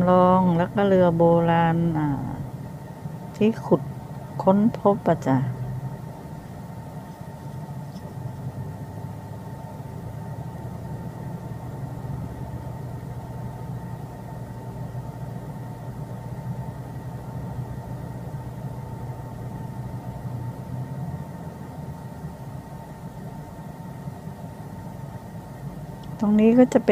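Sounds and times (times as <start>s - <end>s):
faint thin whine: 0.0s - 26.9s
low mechanical hum: 0.0s - 26.9s.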